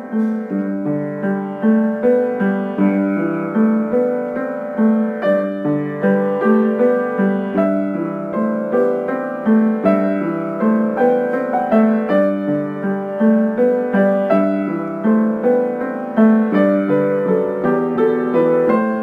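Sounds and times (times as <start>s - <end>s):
piano notes ringing: 0.0s - 19.0s.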